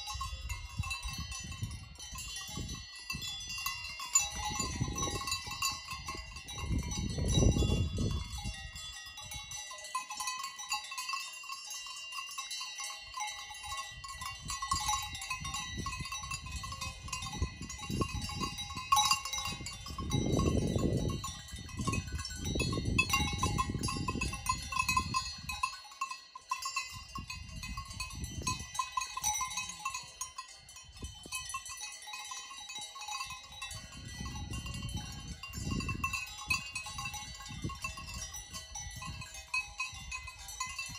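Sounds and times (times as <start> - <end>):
livestock bells clanking: 0.0 - 40.9.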